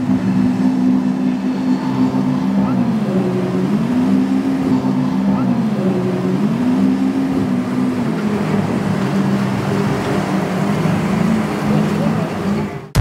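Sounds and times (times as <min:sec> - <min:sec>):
motorboat engine running: 0:00.0 - 0:13.0
water wash: 0:00.0 - 0:13.0.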